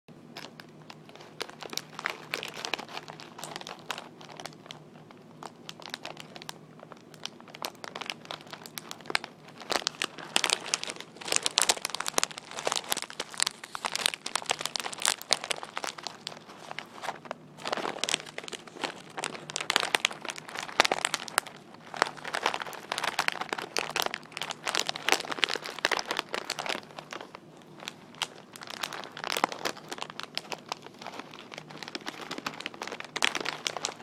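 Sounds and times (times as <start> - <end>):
crinkling packaging: 0.2 - 34.0.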